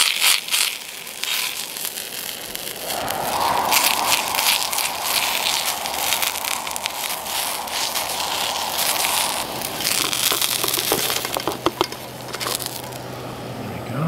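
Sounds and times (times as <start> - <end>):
vegetables sizzling in a frying pan: 0.0 - 13.1.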